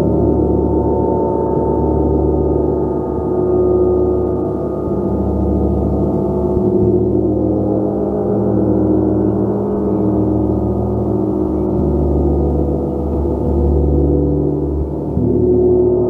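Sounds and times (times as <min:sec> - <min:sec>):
gong being played: 0:00.0 - 0:16.0.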